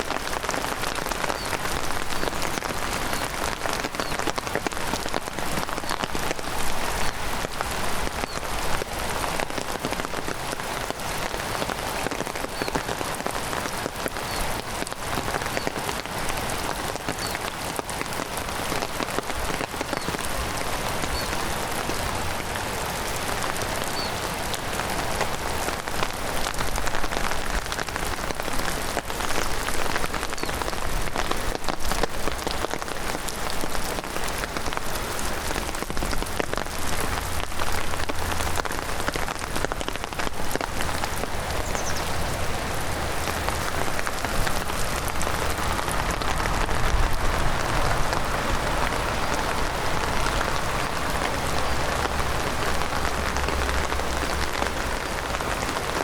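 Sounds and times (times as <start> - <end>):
close raindrop hits ticking: 0.0 - 56.0
heavy rain falling: 0.0 - 56.0.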